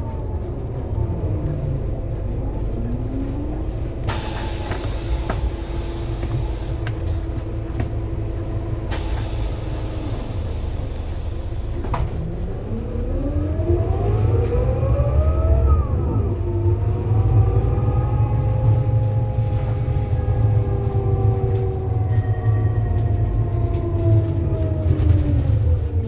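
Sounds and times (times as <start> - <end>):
bus accelerating: 0.0 - 26.0.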